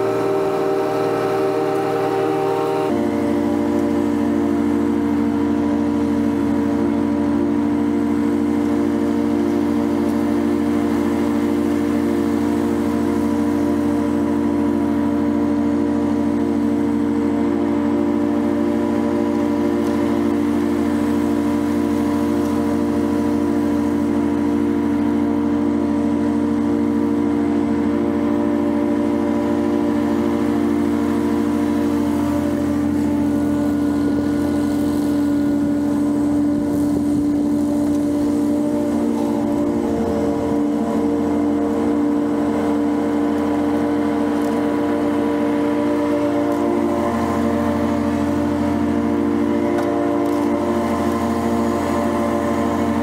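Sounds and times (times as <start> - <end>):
riding mower engine drone: 0.0 - 53.0.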